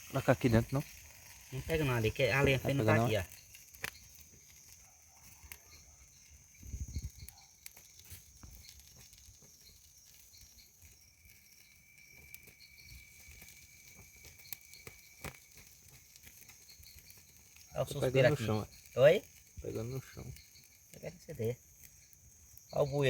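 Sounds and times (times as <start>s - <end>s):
crickets chirring: 0.0s - 23.0s
lower cricket trill: 0.0s - 23.0s.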